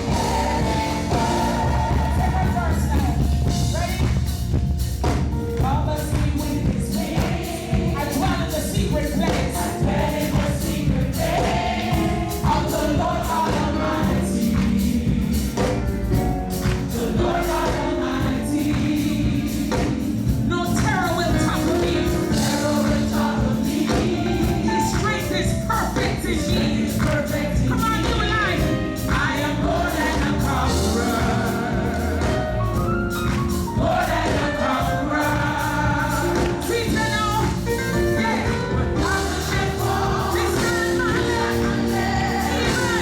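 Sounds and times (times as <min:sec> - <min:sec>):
choir singing: 0:00.0 - 0:03.8, 0:06.5 - 0:43.0
band playing gospel music: 0:00.0 - 0:43.0.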